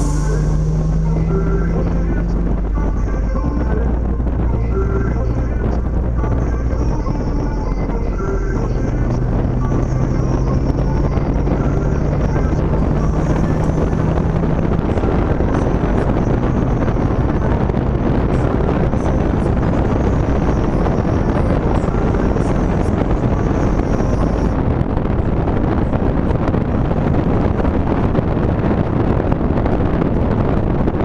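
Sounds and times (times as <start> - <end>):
faint car engine hum: 0.0 - 31.0
wind rushing through car window: 0.0 - 31.0.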